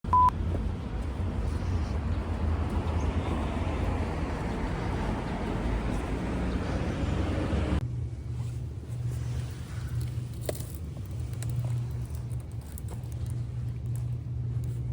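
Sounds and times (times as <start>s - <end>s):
traffic rumble: 0.0s - 14.9s.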